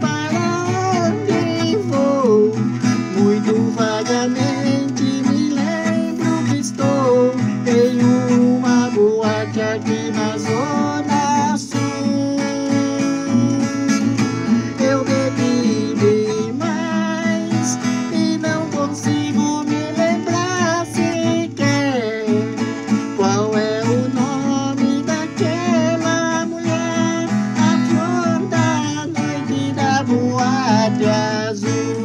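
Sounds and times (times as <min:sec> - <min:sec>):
steel-string acoustic guitar melody: 0:00.0 - 0:32.0.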